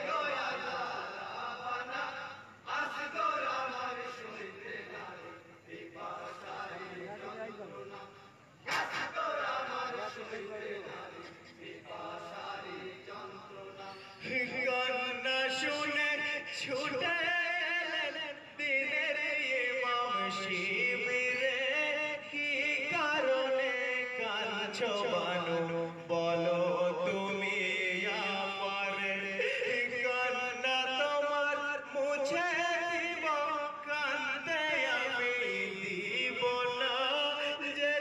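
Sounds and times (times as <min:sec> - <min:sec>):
man singing a lament chant: 0:00.0 - 0:38.0.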